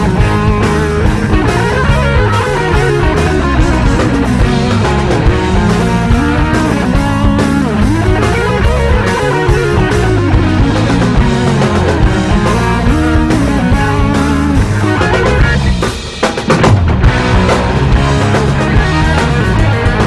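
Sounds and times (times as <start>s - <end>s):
rock music with guitar and drums: 0.0s - 20.0s.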